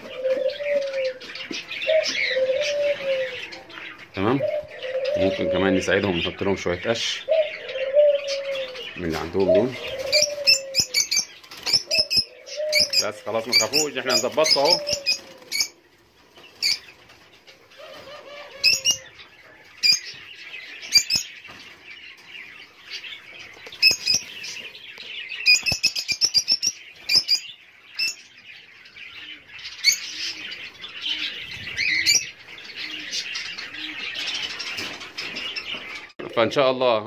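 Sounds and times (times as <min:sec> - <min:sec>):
budgerigars chirping: 0:00.0 - 0:15.8, 0:16.4 - 0:36.5.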